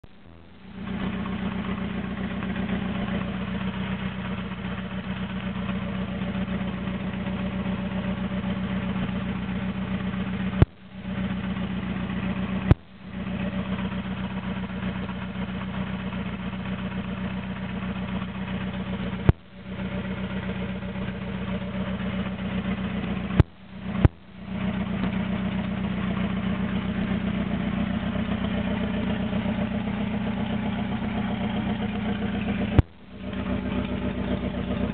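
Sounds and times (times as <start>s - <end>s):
car engine idling roughly: 0.0s - 34.9s
exhaust cracks: 0.0s - 34.9s.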